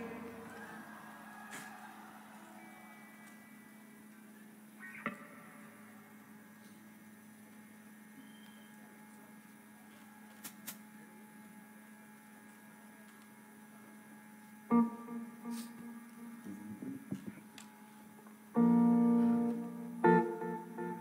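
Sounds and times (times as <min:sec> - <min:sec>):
electrical hum from amplifiers: 0:00.0 - 0:21.0.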